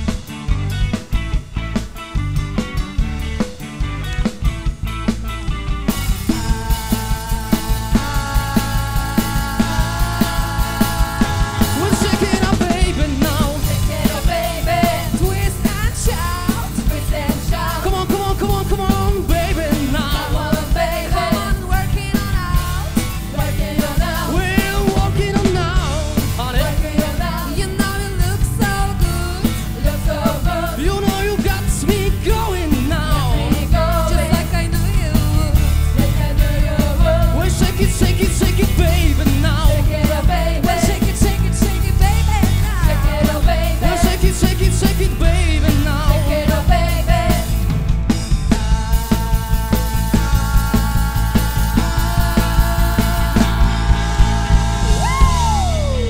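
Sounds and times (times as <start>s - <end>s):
live rock band playing: 0.0s - 56.0s
lead singing: 5.9s - 56.0s.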